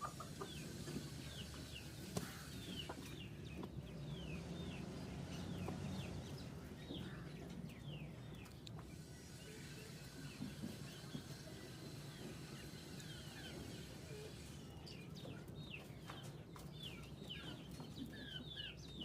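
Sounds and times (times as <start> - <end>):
chickens clucking: 0.0 - 19.0
chicks peeping: 0.0 - 19.0.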